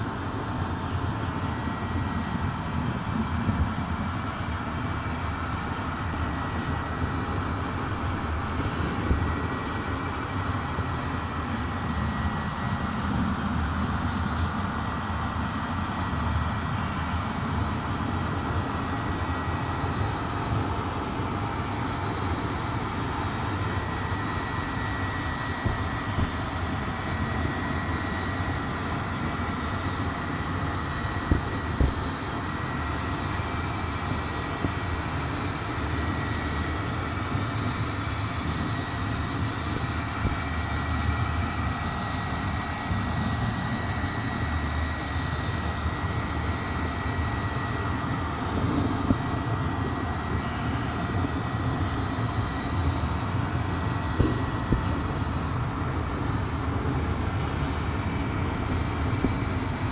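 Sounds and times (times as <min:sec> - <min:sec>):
train rumbling with whine: 0:00.0 - 0:59.9.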